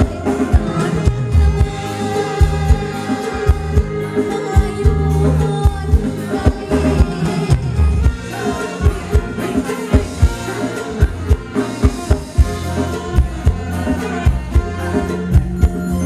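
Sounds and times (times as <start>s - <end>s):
drum-kit beat: 0.0s - 16.0s
live band playing: 0.0s - 16.0s.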